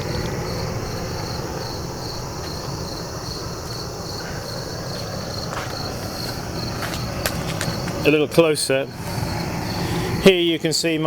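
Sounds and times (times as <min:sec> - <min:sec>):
torch burner rushing: 0:00.0 - 0:10.6
crickets chirping: 0:00.0 - 0:11.0.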